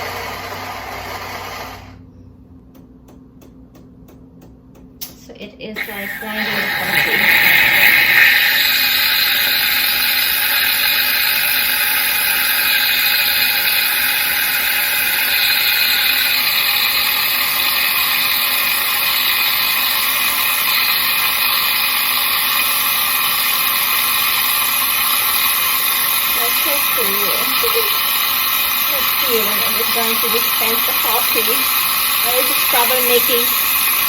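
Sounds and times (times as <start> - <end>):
espresso machine whirring and hissing: 0.0 - 2.1, 5.8 - 34.0.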